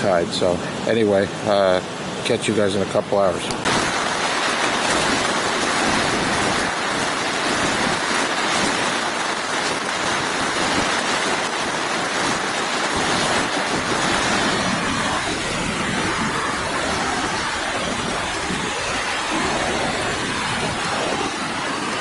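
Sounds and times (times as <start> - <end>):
ocean surf: 0.0 - 22.0
wind: 0.0 - 22.0.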